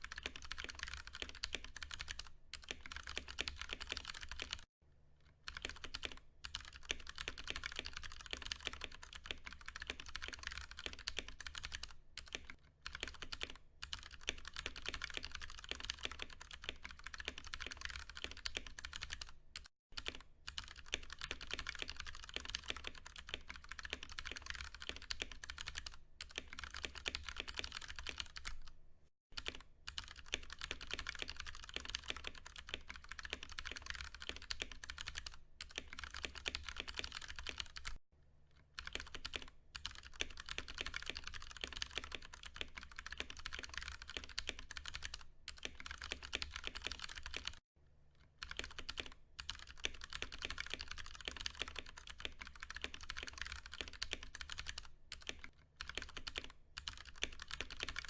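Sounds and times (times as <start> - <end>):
mechanical keyboard typing: 0.0 - 4.7, 5.5 - 28.7, 29.4 - 38.0, 38.7 - 47.6, 48.3 - 58.0.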